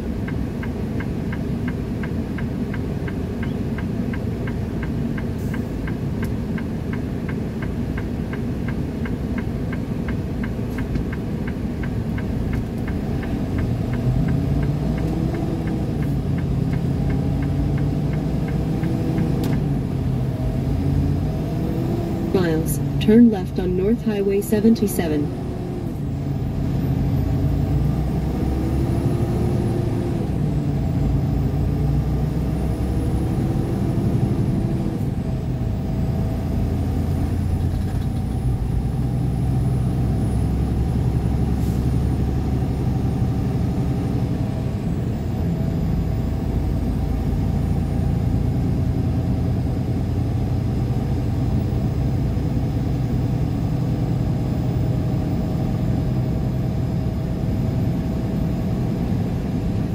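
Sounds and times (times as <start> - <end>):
vehicle engine and tyre noise: 0.0 - 59.9.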